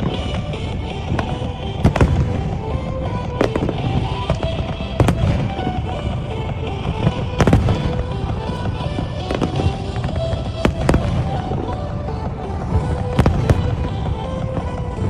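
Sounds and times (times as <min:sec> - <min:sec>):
background music: 0:00.0 - 0:15.0
fireworks bangs: 0:00.0 - 0:15.0.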